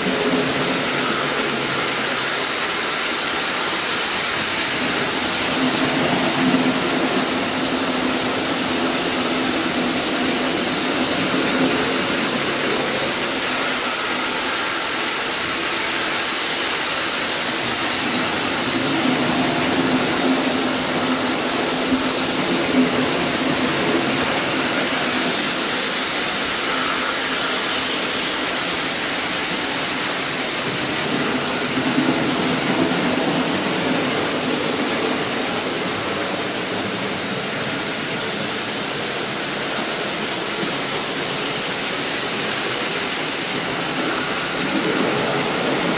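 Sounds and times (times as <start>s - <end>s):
constant hiss: 0.0s - 45.9s
model train motors whirring: 0.0s - 45.9s.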